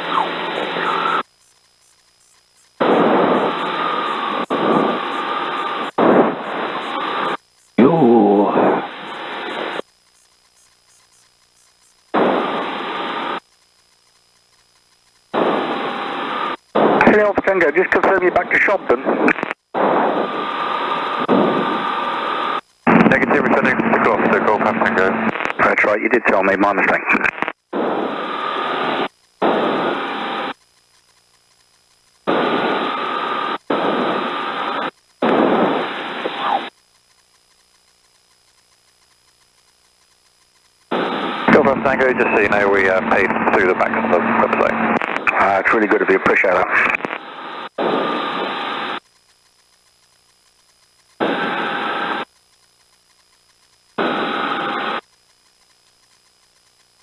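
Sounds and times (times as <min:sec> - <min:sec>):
radio static bursts: 0:00.0 - 0:49.1, 0:50.3 - 0:52.3, 0:53.2 - 0:55.1.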